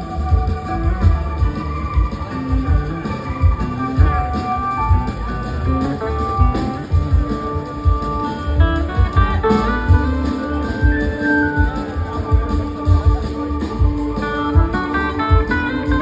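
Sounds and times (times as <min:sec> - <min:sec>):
drum and bass pulse: 0:00.0 - 0:16.0
electric slide guitar solo: 0:00.3 - 0:16.0.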